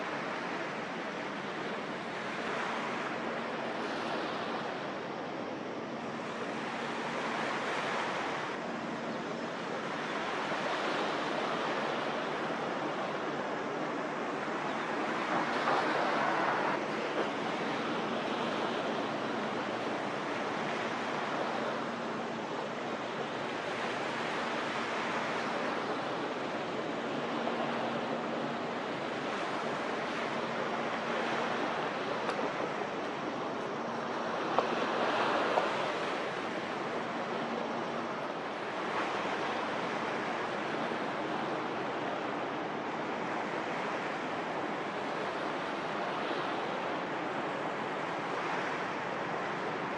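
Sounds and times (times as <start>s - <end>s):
waves washing against shore: 0.0s - 49.9s.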